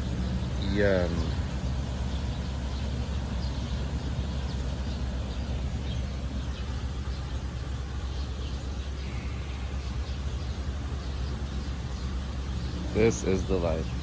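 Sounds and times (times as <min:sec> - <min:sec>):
faint bird chirps: 0:00.0 - 0:14.0
steady low rumble: 0:00.0 - 0:14.0.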